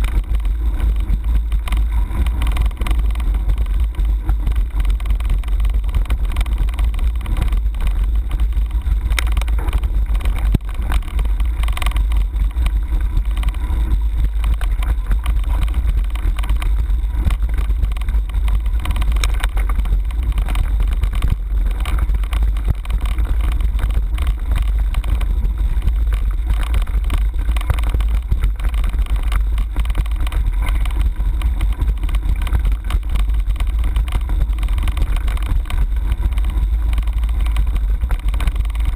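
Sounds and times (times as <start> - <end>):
bike knocking and rattling: 0.0 - 38.9
bike tyre noise: 0.0 - 38.9
wind rumble on microphone: 0.0 - 38.9.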